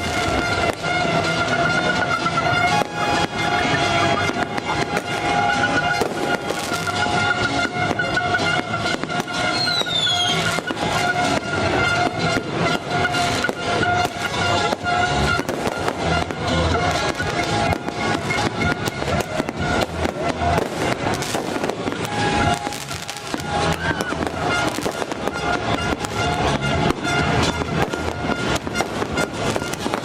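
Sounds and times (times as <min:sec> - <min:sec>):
fireworks crackling and banging: 0:00.0 - 0:30.0
music playing: 0:00.0 - 0:30.0.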